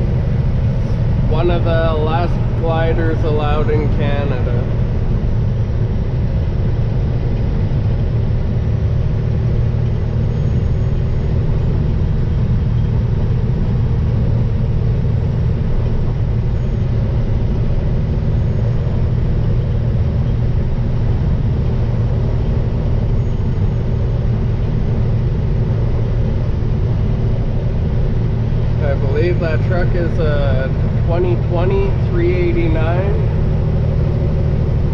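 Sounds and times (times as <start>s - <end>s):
diesel truck engine rumble: 0.0s - 34.9s
road noise: 0.0s - 34.9s.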